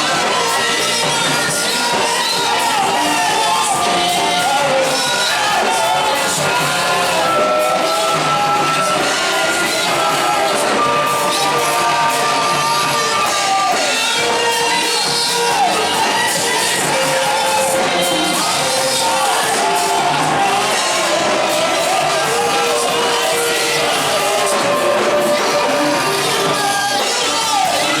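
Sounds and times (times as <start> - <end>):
church worship music: 0.0 - 28.0
congregation shouting: 0.0 - 28.0
congregation singing: 0.0 - 28.0.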